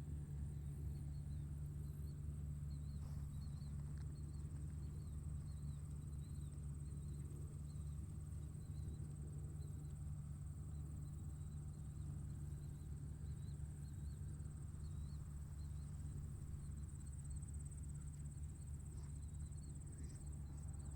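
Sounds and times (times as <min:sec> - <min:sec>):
distant tractor engine rumble: 0:00.0 - 0:20.9.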